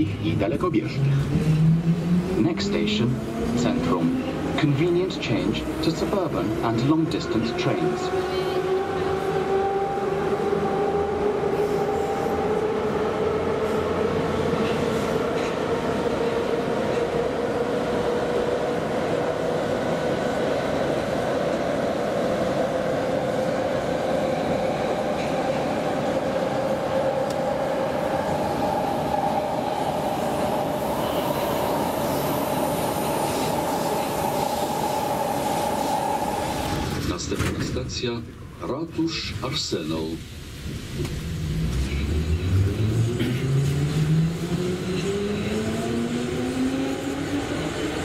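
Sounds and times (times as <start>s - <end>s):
metro train wheels rumbling: 0.0s - 38.6s, 39.2s - 48.0s.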